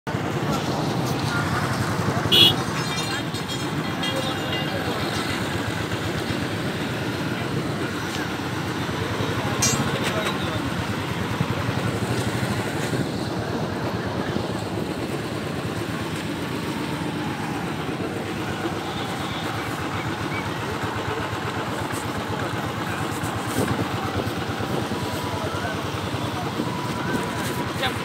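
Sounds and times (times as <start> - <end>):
road noise: 0.0 - 28.0
motorcycle engine running: 0.1 - 28.0.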